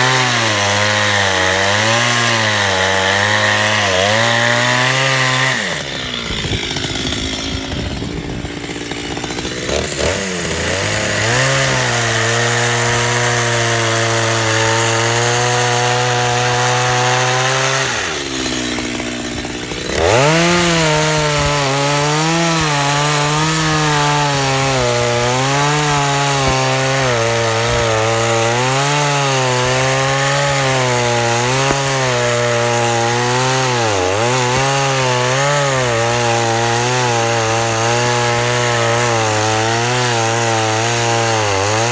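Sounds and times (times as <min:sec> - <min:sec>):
chainsaw cutting log: 0:00.0 - 0:41.9.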